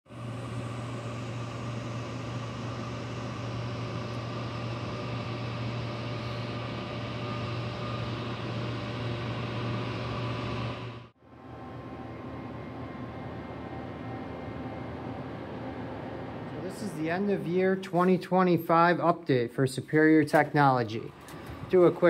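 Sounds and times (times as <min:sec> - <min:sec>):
ventilation low drone: 0:00.1 - 0:22.0.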